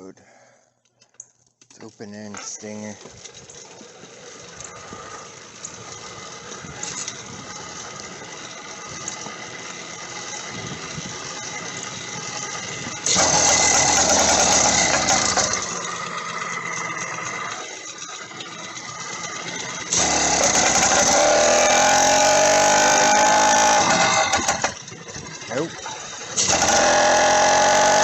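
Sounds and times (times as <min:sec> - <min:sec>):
engine rattling being turned over: 0:01.8 - 0:28.0
two-stroke engine running loud: 0:03.7 - 0:28.0.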